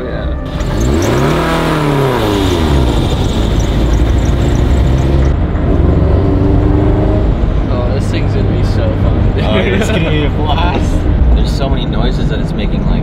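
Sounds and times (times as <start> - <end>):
car engine revving: 0.4 - 13.0.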